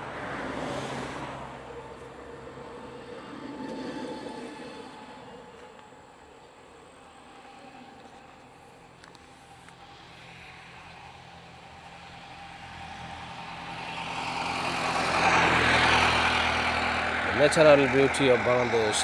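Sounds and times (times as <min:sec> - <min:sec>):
vehicle approaching on highway: 0:00.0 - 0:19.0.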